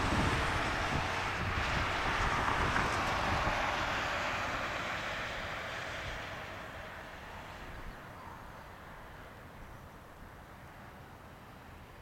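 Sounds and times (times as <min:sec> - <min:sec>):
distant jet engine rush: 0:00.0 - 0:12.0.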